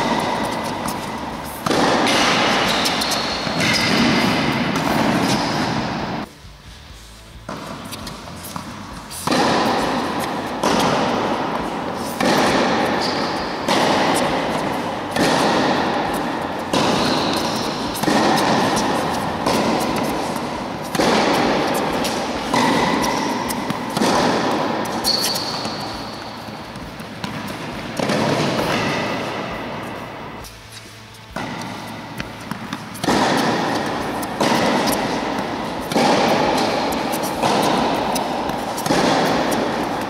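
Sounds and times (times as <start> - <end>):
tennis ball hit by rackets: 0.0 - 6.3, 7.5 - 30.6, 31.2 - 40.0.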